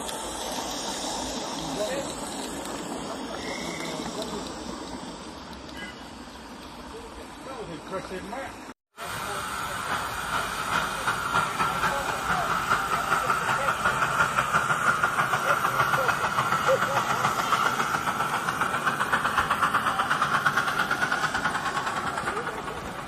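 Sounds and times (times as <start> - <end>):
steam hissing: 0.0 - 23.0
steam locomotive exhaust beats: 0.0 - 23.0.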